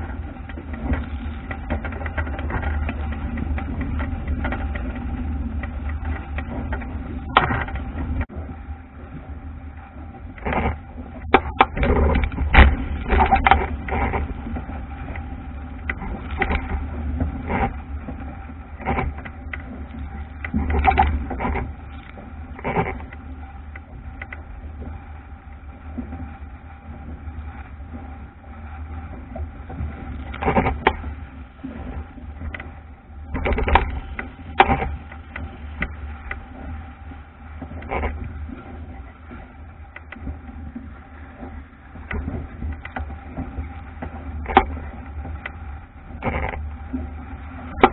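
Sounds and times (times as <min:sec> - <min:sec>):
hull slapping through waves: 0:00.0 - 0:47.9
wind buffeting microphone: 0:00.0 - 0:47.9.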